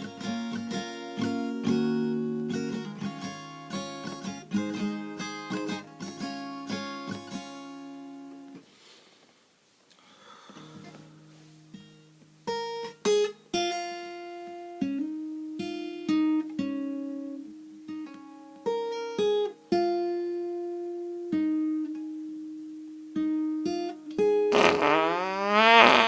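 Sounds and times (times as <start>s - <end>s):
acoustic guitar slow melody: 0.0s - 8.7s, 10.5s - 24.8s.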